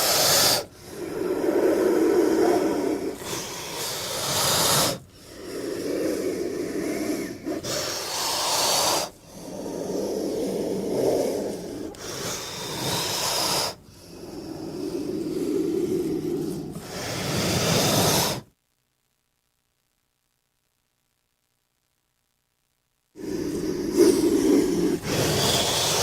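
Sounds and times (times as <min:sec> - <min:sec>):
snake hissing: 0:00.0 - 0:18.5, 0:23.2 - 0:26.0.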